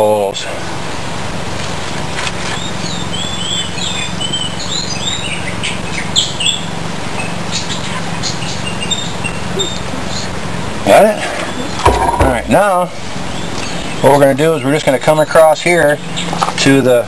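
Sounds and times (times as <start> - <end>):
small birds chirping: 1.7 - 17.0.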